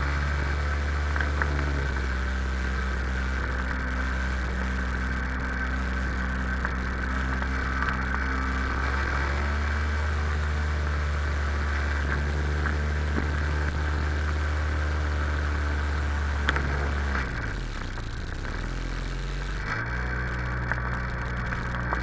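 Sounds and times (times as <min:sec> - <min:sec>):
jet ski engine running: 0:00.0 - 0:22.0.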